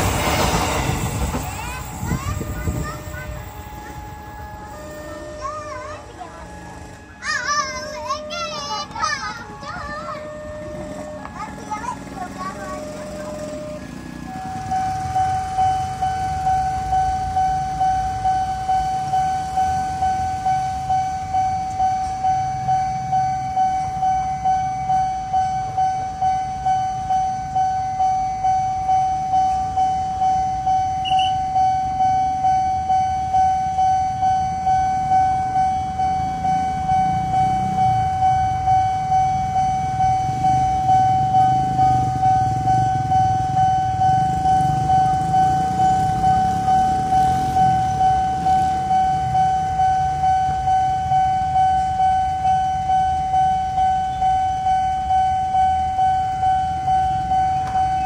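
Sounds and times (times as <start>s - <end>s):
motorbike traffic rumble: 0.0s - 28.5s, 29.2s - 58.0s
level crossing alarm tone pulsing: 0.0s - 58.0s.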